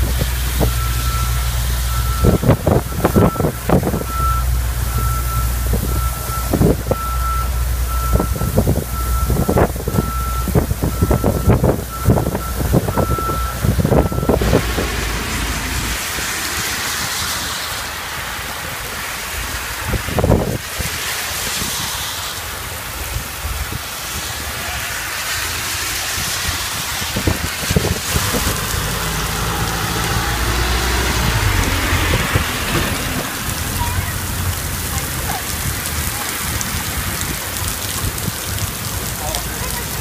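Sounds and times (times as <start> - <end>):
heavy rain on a flooded street: 0.0 - 40.0
passing traffic rumble: 0.0 - 40.0.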